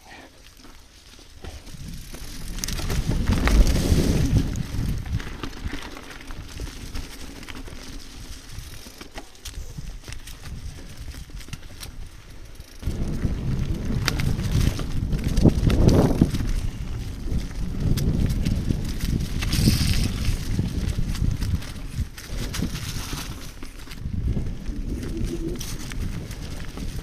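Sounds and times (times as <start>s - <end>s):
bike rattling and clicking: 0.4s - 27.0s
tyres crunching over leaves: 0.9s - 27.0s.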